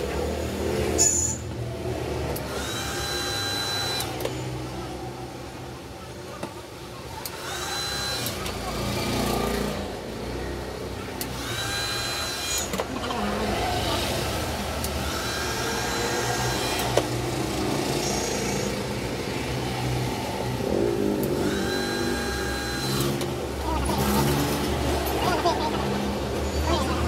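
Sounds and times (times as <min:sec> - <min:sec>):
traffic engines running: 0:00.0 - 0:27.0.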